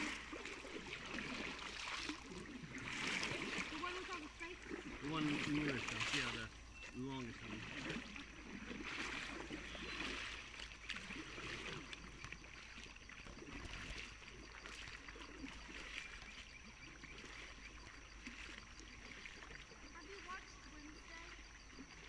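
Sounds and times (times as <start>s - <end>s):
paddles splashing in water: 0.0s - 22.0s
water trickling off paddles: 0.0s - 22.0s.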